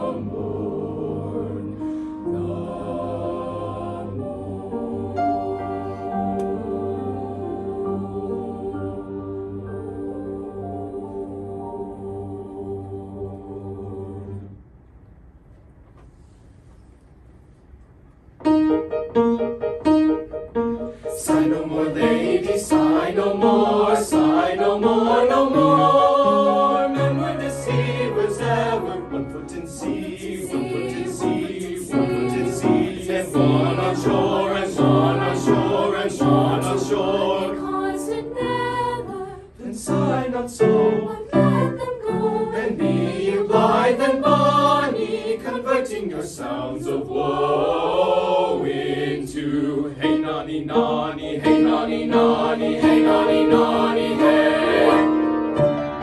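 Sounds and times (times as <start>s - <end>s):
vocal ensemble singing unaccompanied: 0.0s - 14.6s, 21.1s - 55.6s.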